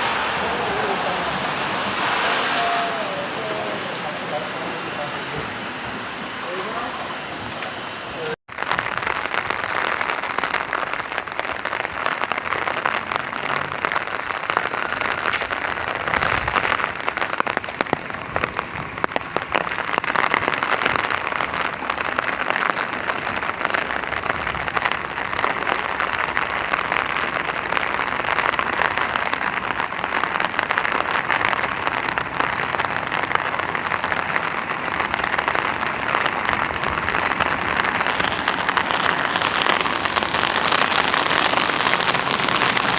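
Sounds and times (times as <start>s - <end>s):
rain falling steadily: 0.0s - 42.9s.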